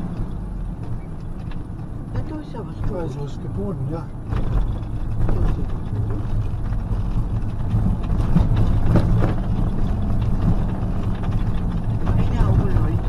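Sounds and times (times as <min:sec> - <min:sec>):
motorhome engine drone: 0:00.0 - 0:13.0
road noise: 0:00.0 - 0:13.0.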